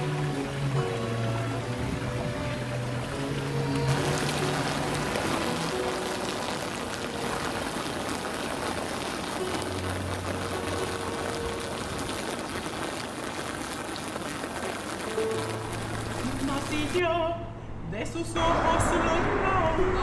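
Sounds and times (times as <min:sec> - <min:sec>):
water rushing: 0:00.0 - 0:17.2.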